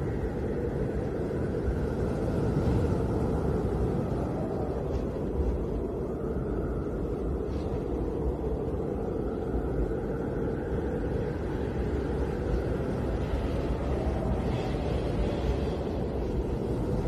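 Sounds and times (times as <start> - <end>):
snowstorm wind rushing: 0.0 - 17.0.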